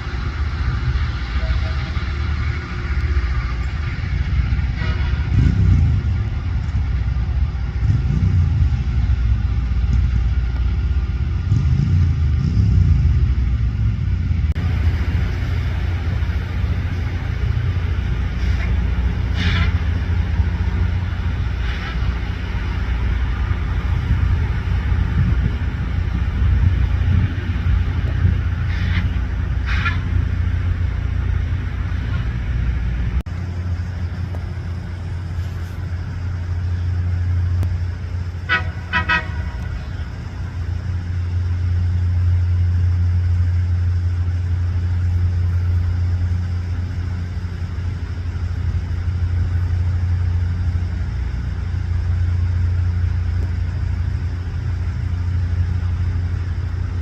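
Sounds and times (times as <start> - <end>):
rail grinder machine rumble: 0.0 - 57.0.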